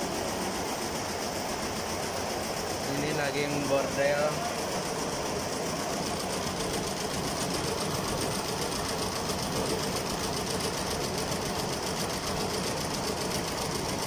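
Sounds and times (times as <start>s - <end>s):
embroidery machine stitching: 1.9s - 14.0s.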